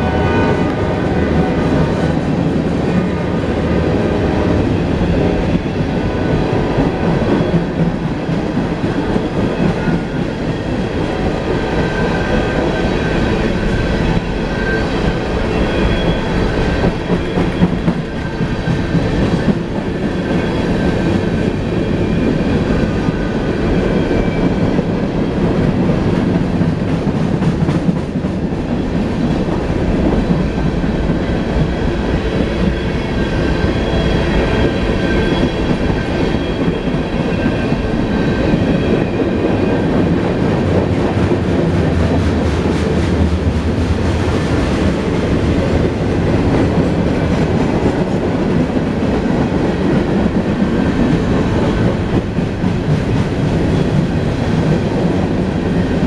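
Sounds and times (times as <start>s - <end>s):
locomotive engine drone: 0.0s - 26.8s, 28.1s - 56.0s
freight train wheels clattering: 0.6s - 56.0s.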